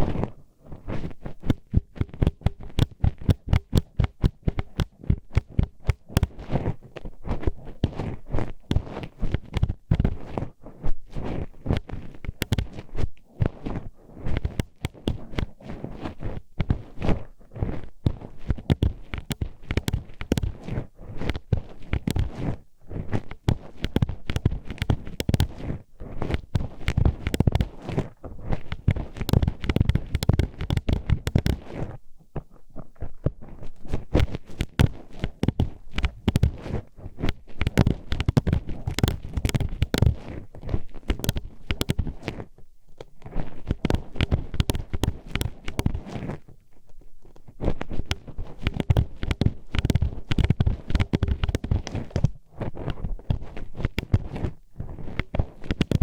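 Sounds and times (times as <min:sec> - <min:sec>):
hairpin scraping microphone: 0:00.0 - 0:56.0.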